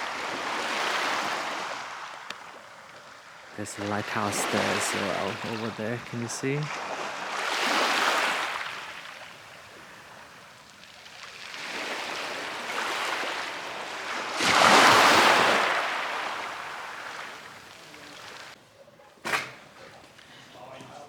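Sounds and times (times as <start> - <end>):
sea waves washing ashore: 0.0 - 18.6.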